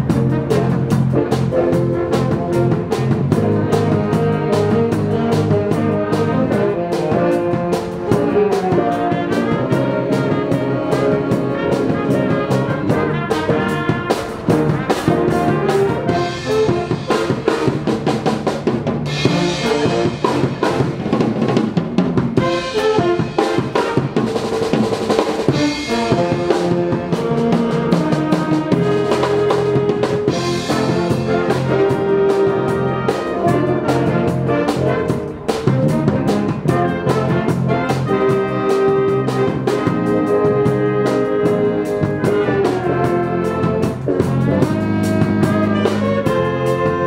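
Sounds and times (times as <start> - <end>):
drum hits and cymbals: 0.0 - 47.0
jazz band playing: 0.0 - 47.0.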